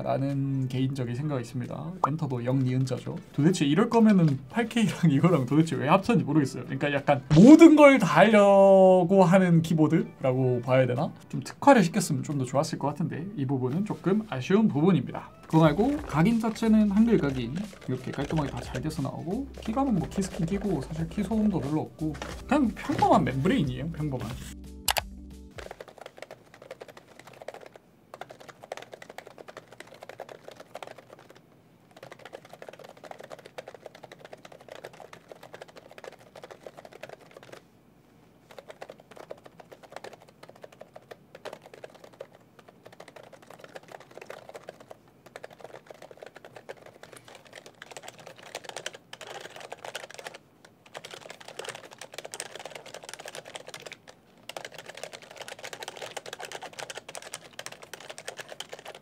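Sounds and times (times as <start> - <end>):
typing on a keyboard: 1.6 - 6.1, 15.2 - 37.7, 38.4 - 59.0.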